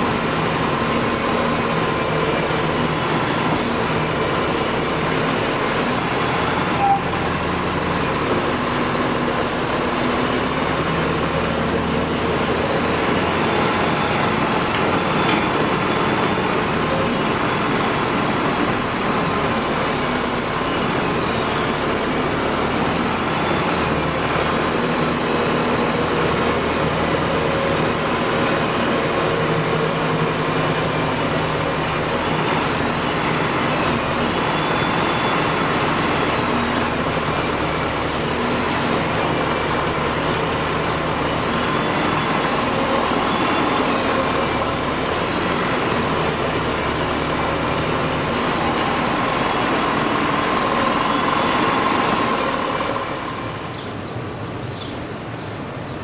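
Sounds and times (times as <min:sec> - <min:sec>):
diesel engine of farm machinery: 0:00.0 - 0:56.0.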